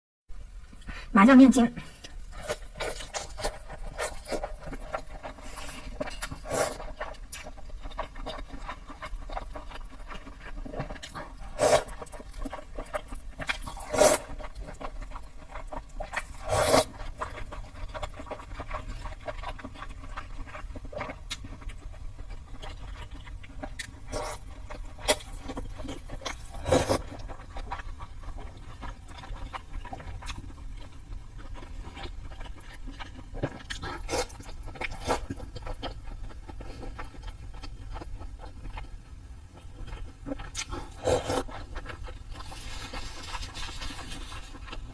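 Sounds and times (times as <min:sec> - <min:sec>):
wet chewing: 0:02.0 - 0:44.9.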